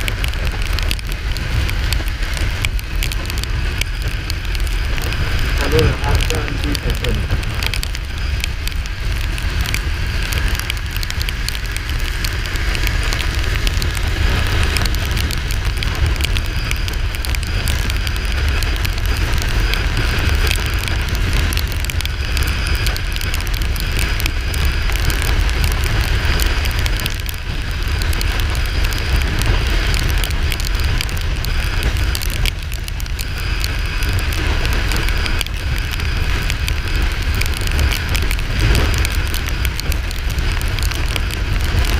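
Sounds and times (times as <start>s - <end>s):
motorcycle engine rumble: 0.0s - 41.9s
wind rushing over microphone: 0.0s - 41.9s.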